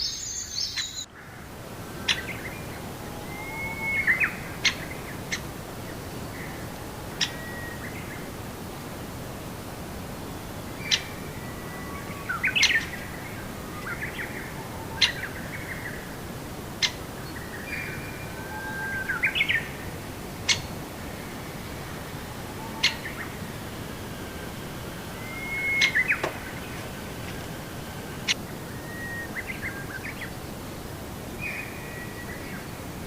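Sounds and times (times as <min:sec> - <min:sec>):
songbird singing: 0:00.0 - 0:33.0
steady background hiss: 0:00.0 - 0:33.0.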